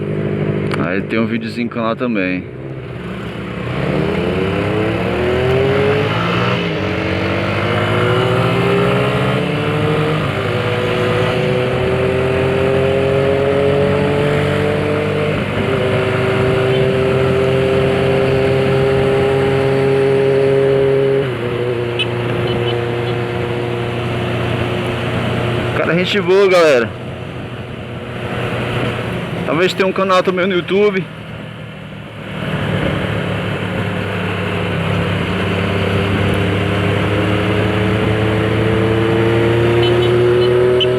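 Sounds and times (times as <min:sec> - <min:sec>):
motorcycle engine accelerating: 0:02.4 - 0:40.9.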